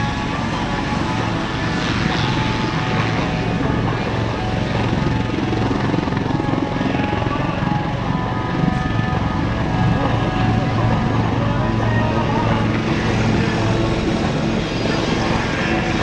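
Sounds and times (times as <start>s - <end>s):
helicopter rotor chop: 0.0s - 16.0s
helicopter turbine whine: 0.0s - 16.0s.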